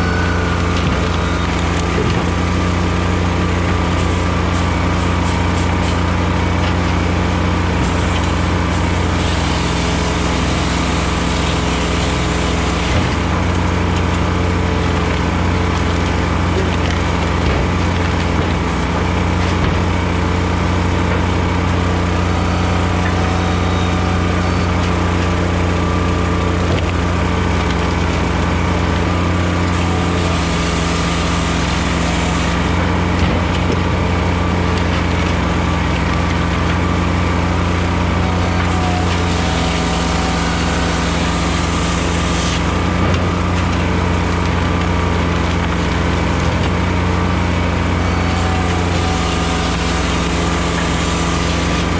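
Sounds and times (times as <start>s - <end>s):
firewood processor engine running: 0.0s - 51.9s
saw cutting through log: 0.0s - 51.9s.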